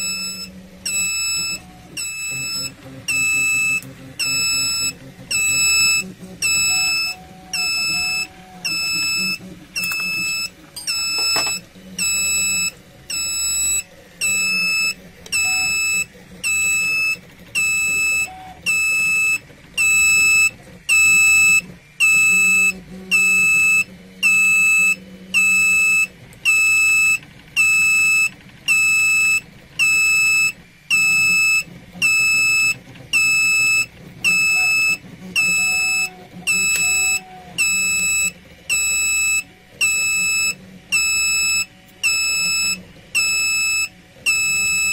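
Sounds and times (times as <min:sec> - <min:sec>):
high-pitched electronic buzzer beeping: 0:00.0 - 0:44.9.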